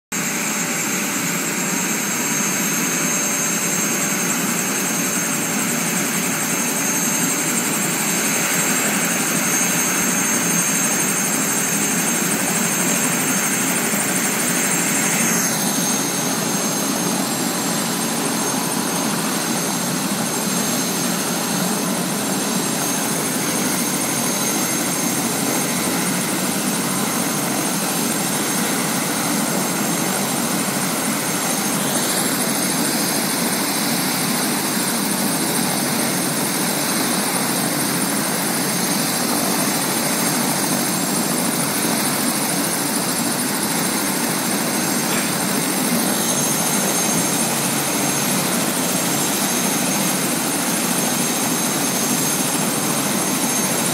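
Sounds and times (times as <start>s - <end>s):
helicopter engine and rotor: 0.1s - 53.9s
high turbine whine: 0.2s - 53.9s.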